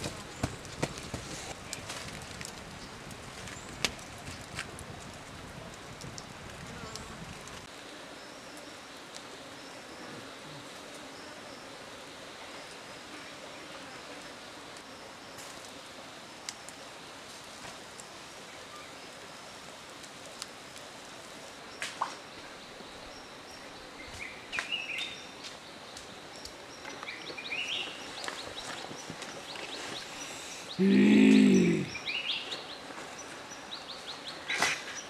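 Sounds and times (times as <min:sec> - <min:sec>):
outdoor background hiss: 0:00.0 - 0:35.0.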